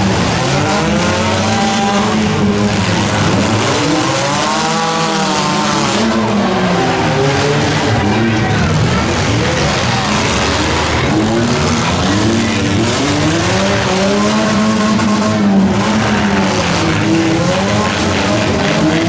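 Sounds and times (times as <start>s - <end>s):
car engines revving: 0.0s - 19.0s
tyres rushing on dirt: 0.0s - 19.0s.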